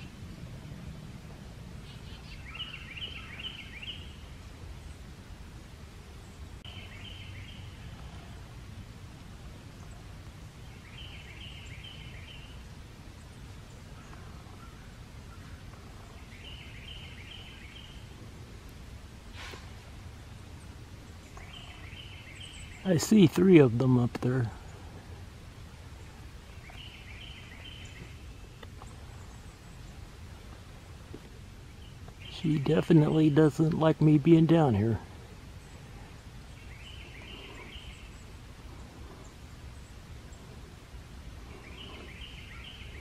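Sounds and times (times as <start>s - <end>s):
low steady rumble: 0.0s - 43.0s
songbird singing: 0.0s - 43.0s.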